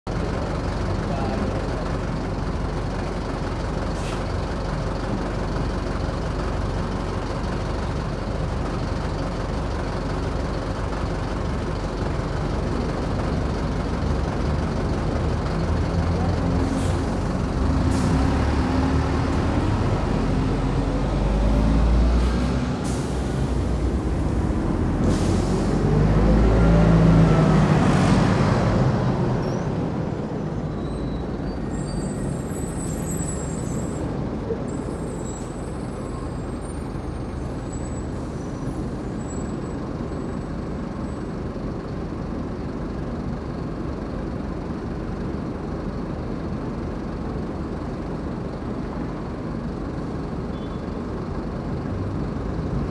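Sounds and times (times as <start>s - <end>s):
heavy traffic rumble: 0.0s - 52.9s
bus engines rumbling: 0.1s - 52.9s.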